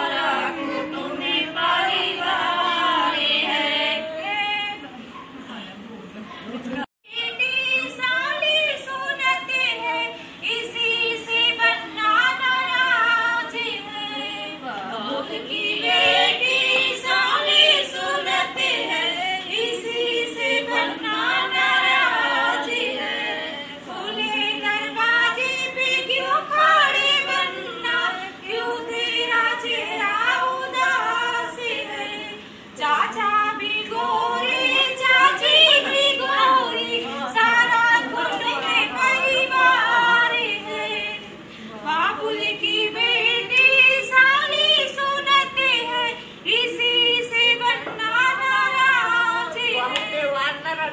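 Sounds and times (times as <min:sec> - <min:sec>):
women singing unaccompanied: 0:00.0 - 0:05.1, 0:07.0 - 0:50.9.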